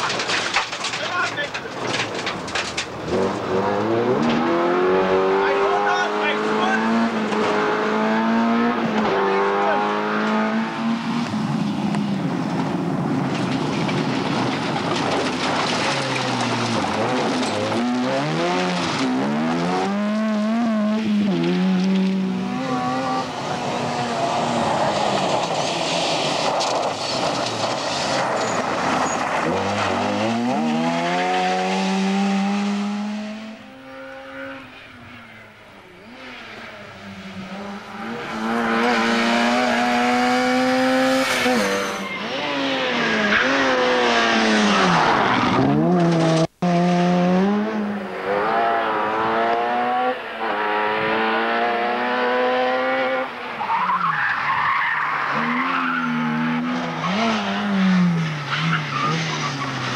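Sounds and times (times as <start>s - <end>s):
rally car engine revving: 2.8s - 59.9s.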